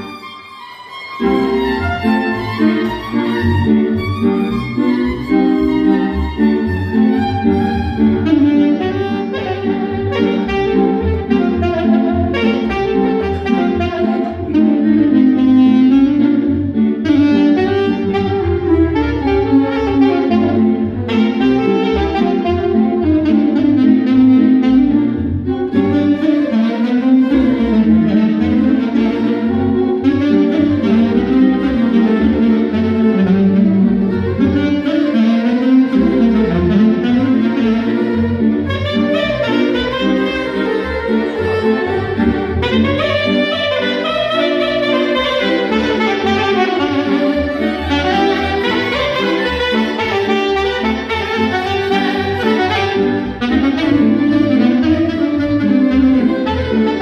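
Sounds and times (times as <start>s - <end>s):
saxophone melody: 0.0s - 57.0s
low bass accompaniment: 1.2s - 57.0s.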